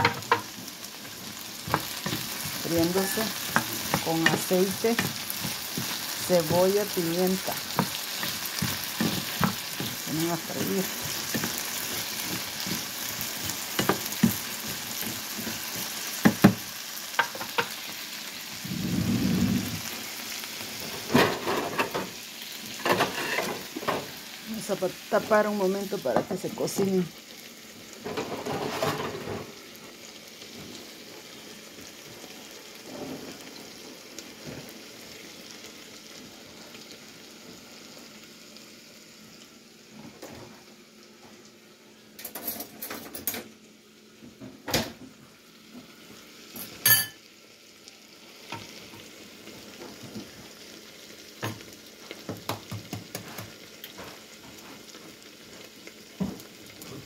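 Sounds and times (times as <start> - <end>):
potatoes sizzling in oil: 0.0 - 57.0.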